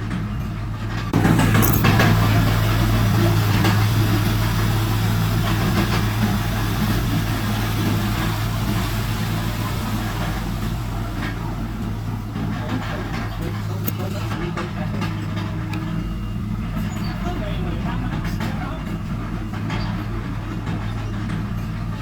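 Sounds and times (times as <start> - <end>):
heavy diesel engine droning: 0.0 - 22.0.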